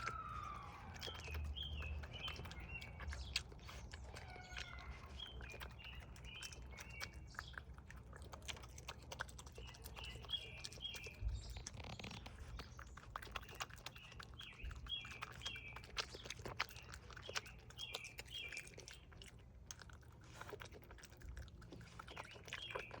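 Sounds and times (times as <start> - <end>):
raccoon chewing and crunching: 0.0 - 23.0
small birds chirping: 0.0 - 23.0.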